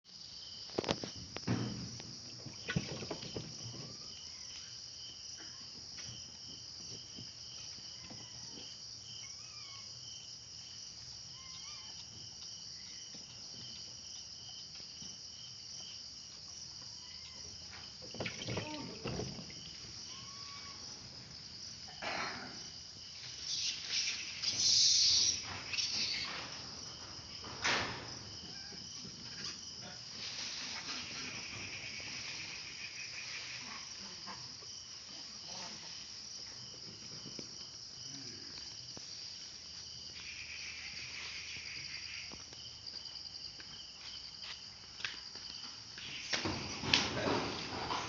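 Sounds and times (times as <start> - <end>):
high-pitched insect chorus: 0.1 - 48.0.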